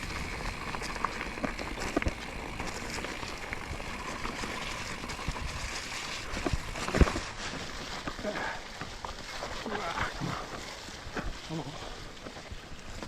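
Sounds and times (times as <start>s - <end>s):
bike rattling and knocking: 0.0s - 11.4s
tyres rushing on wet ground: 0.0s - 12.9s.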